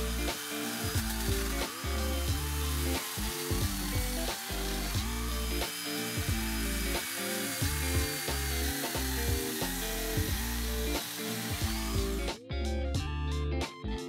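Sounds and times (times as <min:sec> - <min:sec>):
electric chainsaw cutting log: 0:00.0 - 0:12.4
electric motor whining: 0:00.0 - 0:12.4
background music: 0:00.0 - 0:14.0.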